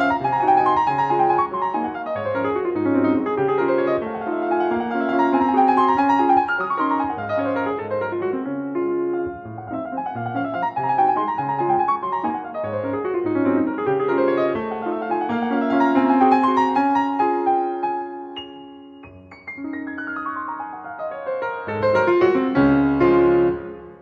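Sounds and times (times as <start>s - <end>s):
piano music with quick runs: 0.0s - 24.0s.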